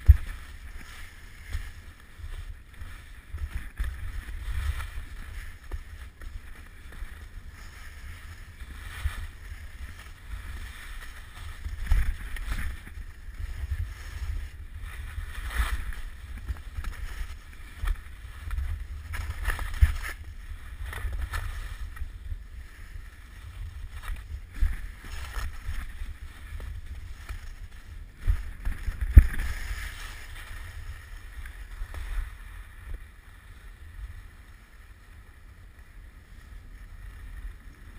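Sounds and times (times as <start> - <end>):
skis hissing over snow: 0.0 - 37.9
wind rumble on microphone: 0.0 - 37.9.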